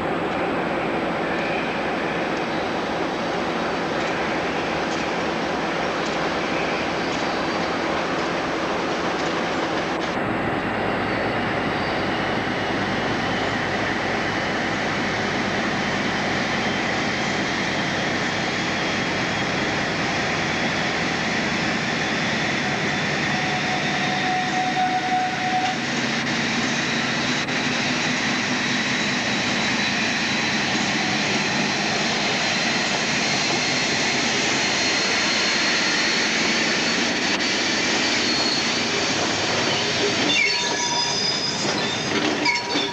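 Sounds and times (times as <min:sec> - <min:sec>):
train running with high whine: 0:00.0 - 0:42.9.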